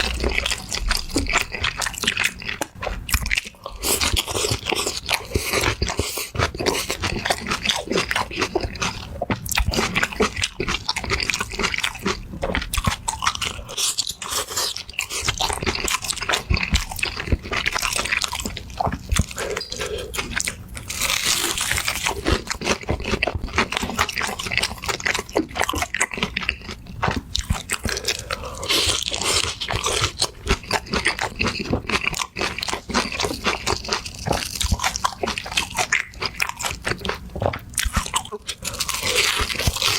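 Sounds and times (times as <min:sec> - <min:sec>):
crunchy eating and chewing: 0:00.0 - 0:39.9.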